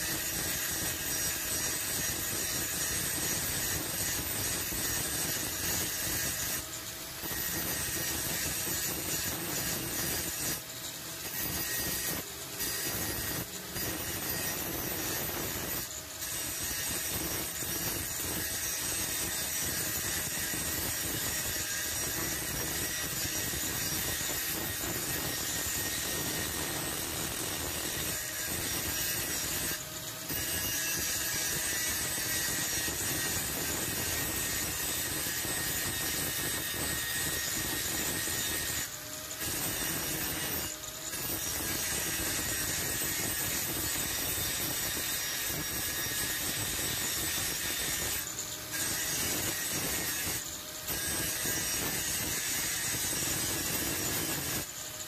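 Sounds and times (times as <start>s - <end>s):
angle grinder grinding steel: 0.0s - 55.0s.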